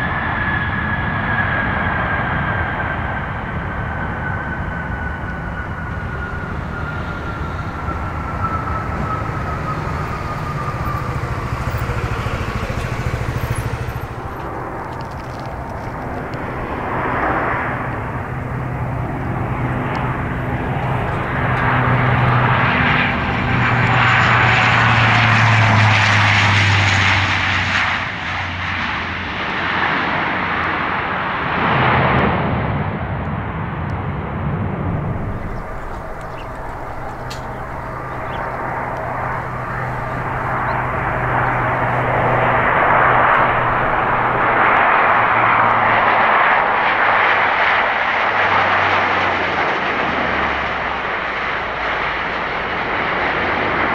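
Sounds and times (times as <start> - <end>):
jet engine whine: 0.0 - 53.9
turboprop plane droning: 0.0 - 53.9.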